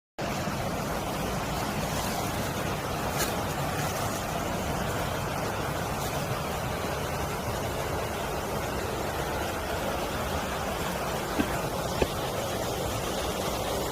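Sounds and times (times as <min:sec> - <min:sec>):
stream water rushing: 0:00.2 - 0:13.9.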